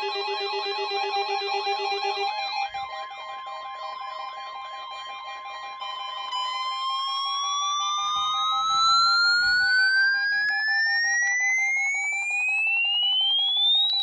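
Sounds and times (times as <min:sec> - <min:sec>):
low pulsing alarm tone: 0:00.0 - 0:14.0
rising electronic alarm tone: 0:00.0 - 0:14.0.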